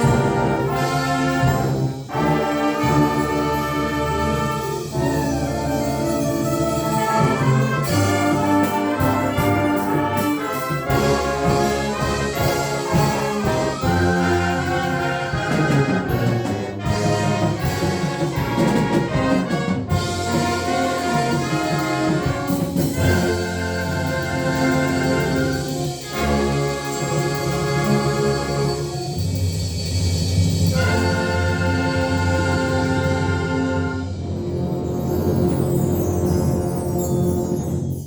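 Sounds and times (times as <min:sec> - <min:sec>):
trumpets and trombones: 0:00.0 - 0:29.4, 0:30.2 - 0:37.9
concert band playing: 0:00.0 - 0:37.8.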